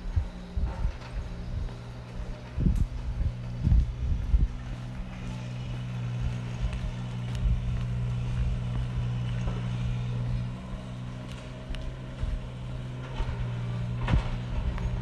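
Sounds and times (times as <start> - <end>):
motor humming: 0.0 - 15.0
uneven low rumble: 0.0 - 15.0.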